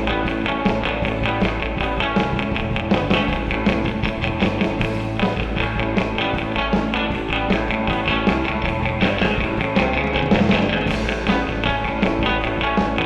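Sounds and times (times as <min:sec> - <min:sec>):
rock guitar music: 0:00.0 - 0:13.0
steady drum beat: 0:00.0 - 0:13.0.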